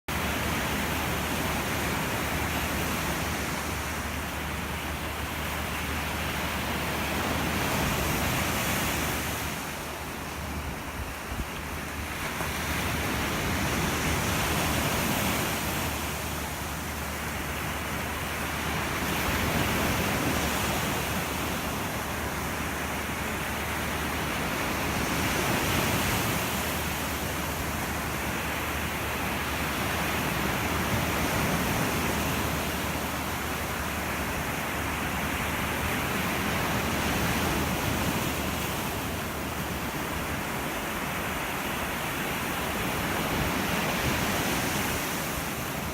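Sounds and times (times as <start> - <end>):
sea waves on beach: 0.1 - 45.9.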